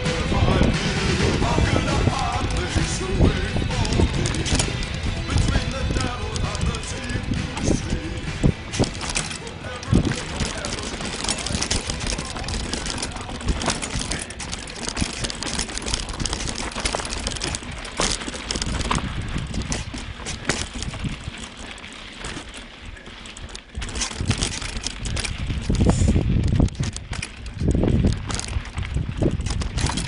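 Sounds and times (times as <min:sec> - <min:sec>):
mountain bike clattering: 0:00.0 - 0:30.0.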